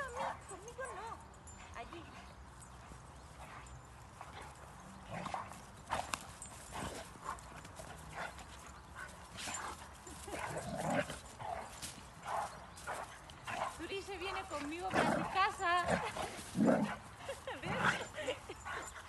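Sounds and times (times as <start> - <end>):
dogs scuffling: 0.0 - 19.0.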